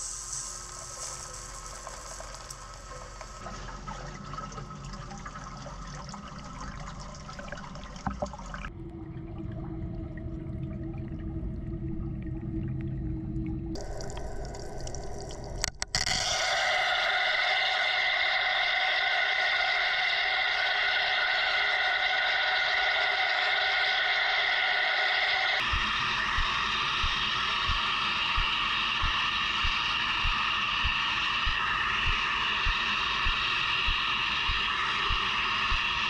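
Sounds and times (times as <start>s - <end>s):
water gushing into tank: 0.0s - 11.9s, 13.7s - 36.0s.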